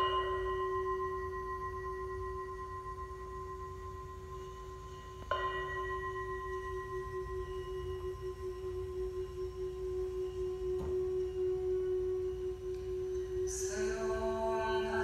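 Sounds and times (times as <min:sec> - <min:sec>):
struck bowl bell ringing: 0:00.0 - 0:15.0.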